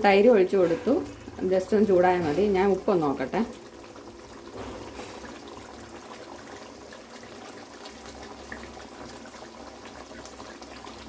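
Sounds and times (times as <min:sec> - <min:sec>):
curry bubbling in a pan: 0:00.0 - 0:11.0.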